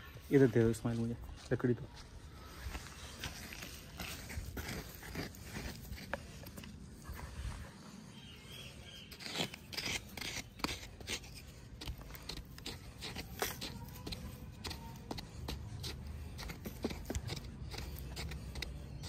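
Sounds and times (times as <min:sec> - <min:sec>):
stick scraping in stony dirt: 0:02.4 - 0:19.0.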